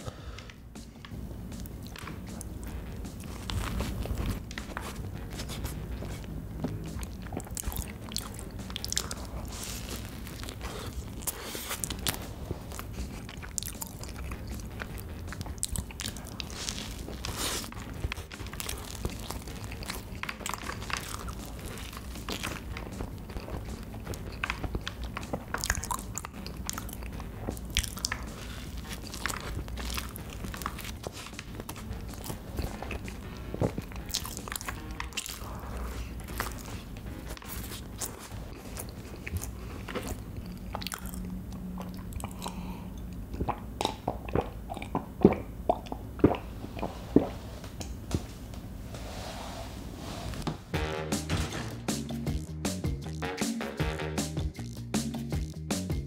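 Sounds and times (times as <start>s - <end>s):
crunchy chewing: 0.1s - 48.0s.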